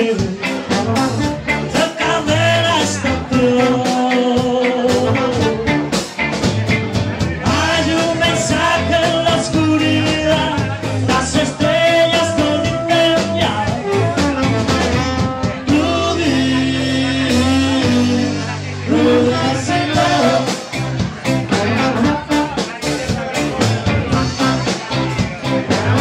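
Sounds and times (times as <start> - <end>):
person singing: 0.0 - 6.0, 7.4 - 26.0
trombone: 0.0 - 24.8
live band playing: 0.0 - 26.0.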